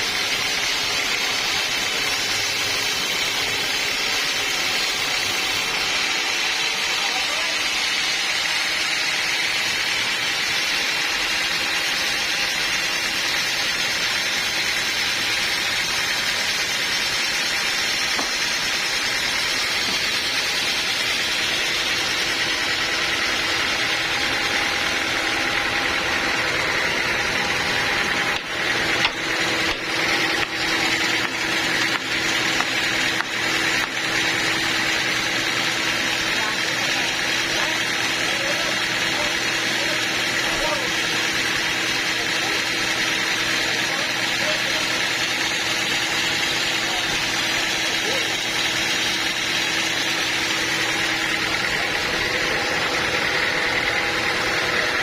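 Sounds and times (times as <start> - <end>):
sawmill engine and blade: 0.0 - 55.0
steady hum: 0.0 - 55.0.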